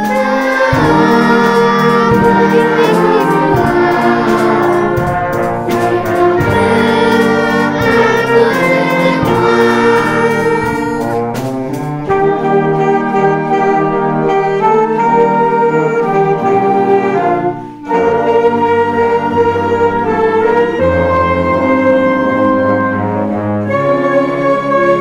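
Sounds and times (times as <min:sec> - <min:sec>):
children's choir singing: 0:00.0 - 0:22.6
wind band playing: 0:00.0 - 0:25.0.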